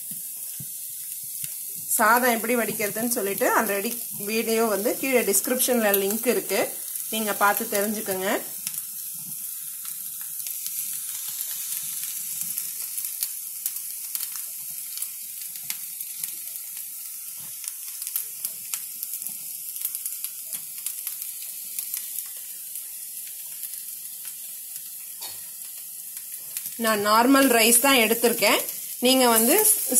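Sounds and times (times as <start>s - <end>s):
food sizzling in hot oil: 0.0s - 29.9s.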